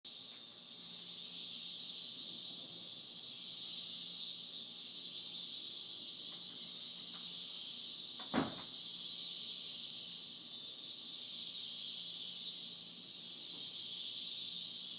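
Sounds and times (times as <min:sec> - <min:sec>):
insects chorus shrilling: 0:00.1 - 0:14.9.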